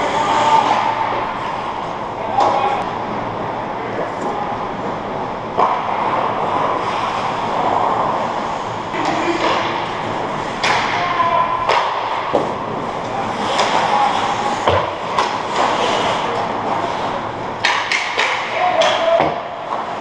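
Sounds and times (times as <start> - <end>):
skates scraping ice: 0.0 - 2.8, 5.6 - 20.0
sticks and puck clacking: 0.0 - 2.9, 4.0 - 20.0.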